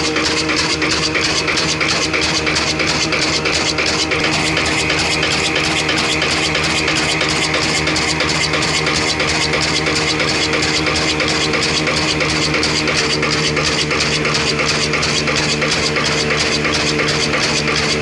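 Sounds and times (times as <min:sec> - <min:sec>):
stationary diesel engine running: 0:00.0 - 0:18.0.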